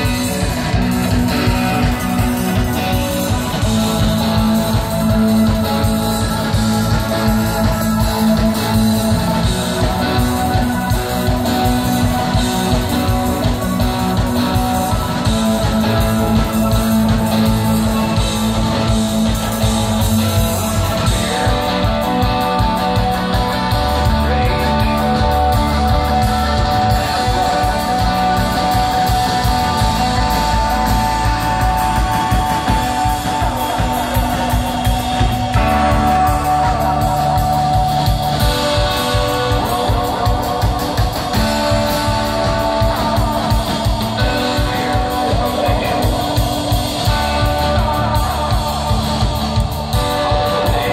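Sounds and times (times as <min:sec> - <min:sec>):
drums keeping a steady beat: 0:00.0 - 0:50.9
electric guitar lines: 0:00.0 - 0:50.9.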